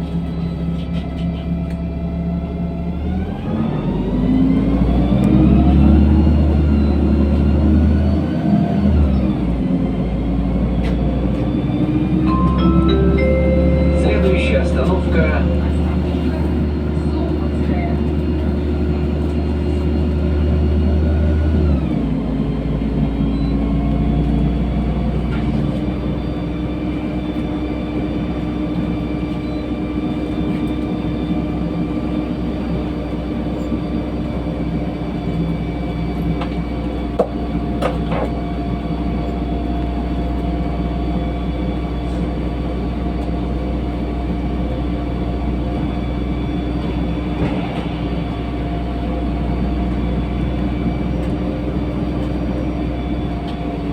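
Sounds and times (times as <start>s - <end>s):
bus engine rumble: 0.0s - 53.9s.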